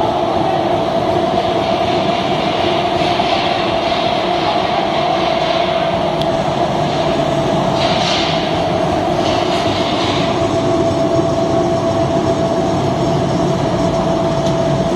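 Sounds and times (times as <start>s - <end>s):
granulator machine rumbling: 0.0s - 14.9s.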